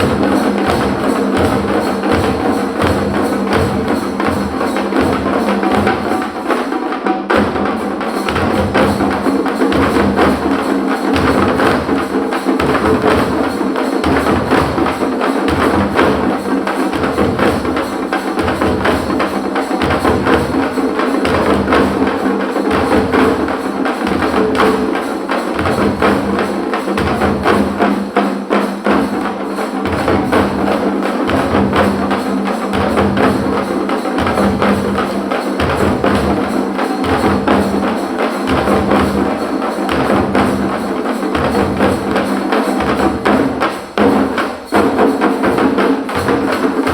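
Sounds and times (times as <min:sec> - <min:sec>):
frame drums playing fast rhythm: 0:00.0 - 0:46.9.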